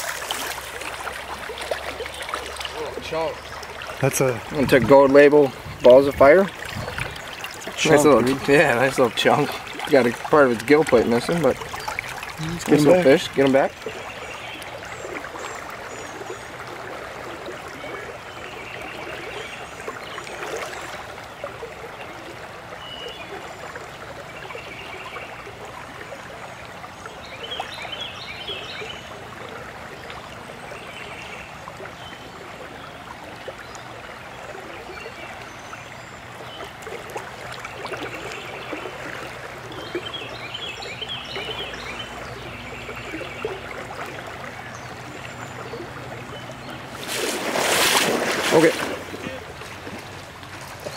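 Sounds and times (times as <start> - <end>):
creek water flowing: 0.0 - 50.9.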